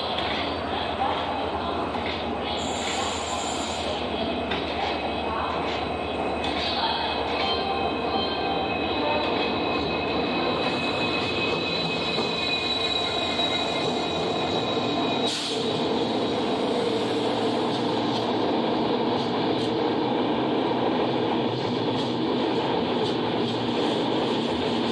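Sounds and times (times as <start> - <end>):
train wheels rumbling on rails: 0.0 - 24.9.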